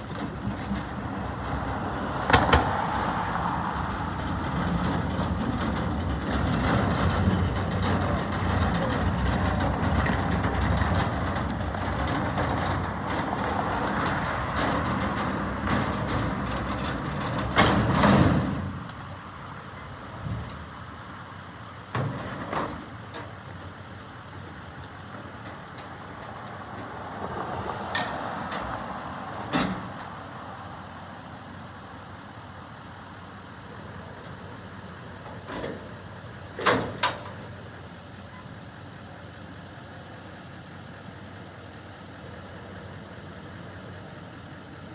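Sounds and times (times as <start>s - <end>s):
garbage truck running: 0.0s - 44.9s.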